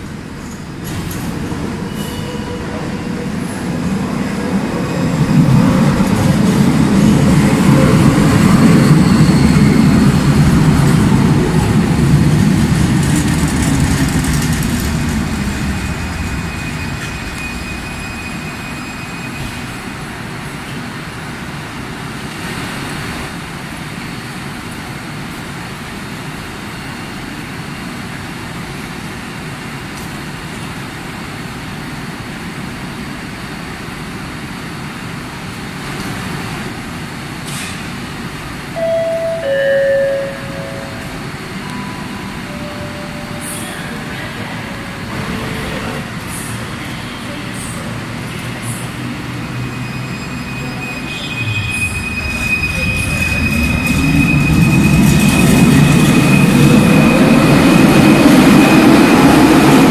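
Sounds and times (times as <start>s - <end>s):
train passing with low rumble: 0.0s - 59.9s.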